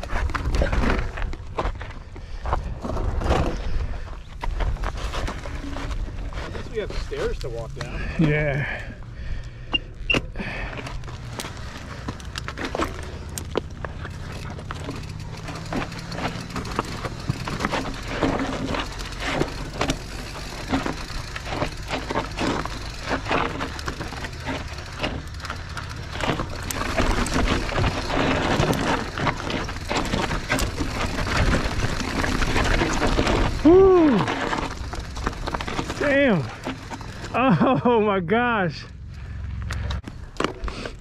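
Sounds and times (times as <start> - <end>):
bike rattling with small knocks: 0.0 - 38.0, 39.0 - 41.0
bike tyres crunching over stones: 0.0 - 41.0.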